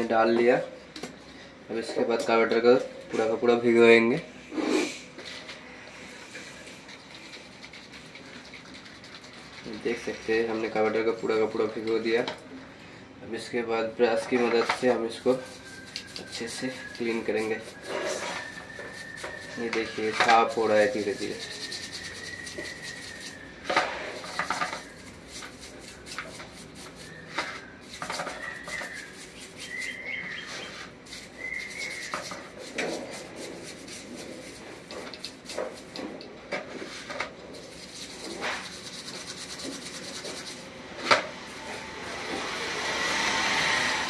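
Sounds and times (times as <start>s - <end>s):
brush scrubbing metal: 6.2s - 12.2s, 14.0s - 44.0s.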